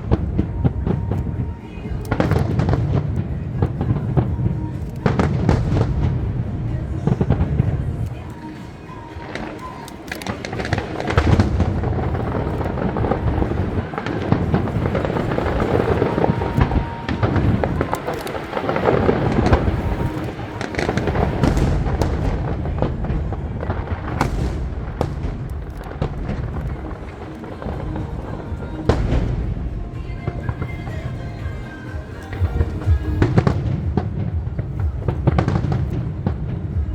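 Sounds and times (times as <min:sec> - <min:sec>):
fireworks bangs and crackles: 0:00.0 - 0:36.9
music playing: 0:00.0 - 0:36.9.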